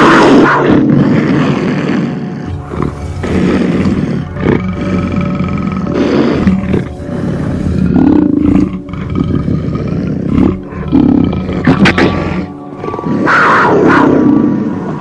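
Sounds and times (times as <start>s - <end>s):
background music: 0.0s - 15.0s
big cat roaring: 0.0s - 15.0s.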